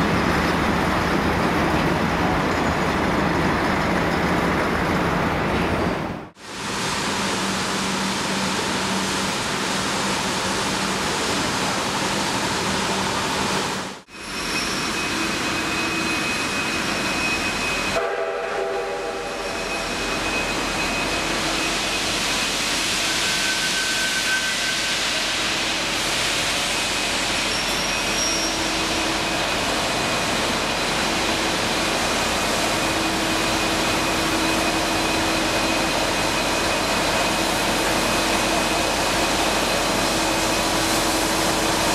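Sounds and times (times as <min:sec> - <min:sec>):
railway station din: 0:00.0 - 0:41.9
steam locomotive hissing steam: 0:06.4 - 0:41.9.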